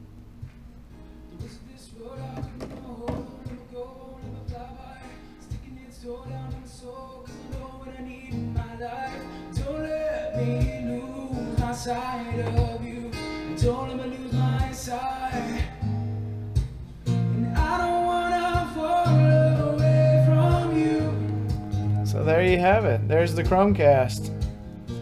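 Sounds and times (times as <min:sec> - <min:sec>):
song with singing and guitar: 0:00.4 - 0:25.0.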